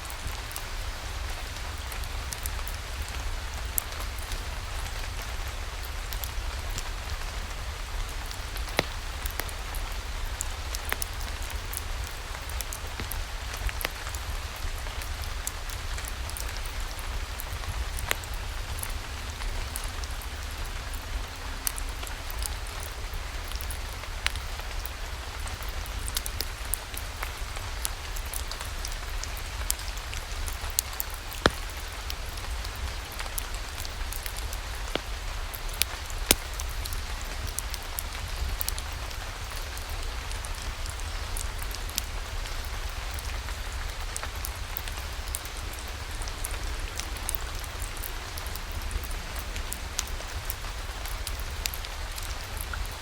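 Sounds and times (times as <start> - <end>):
steady rain falling: 0.0 - 53.0
wood fire crackling: 0.0 - 53.0.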